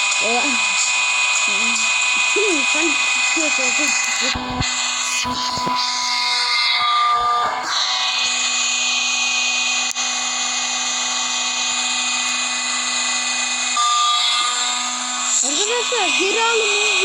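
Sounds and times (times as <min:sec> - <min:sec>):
crushing machine motor whining: 0:00.0 - 0:17.0.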